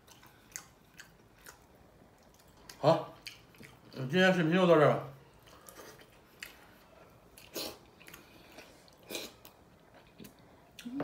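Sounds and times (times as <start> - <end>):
man chewing food: 0.0 - 4.1, 5.2 - 11.0.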